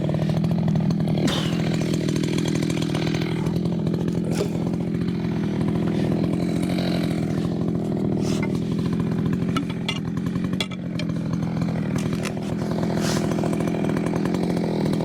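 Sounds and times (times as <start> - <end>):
chainsaw cutting log: 0.0 - 15.0.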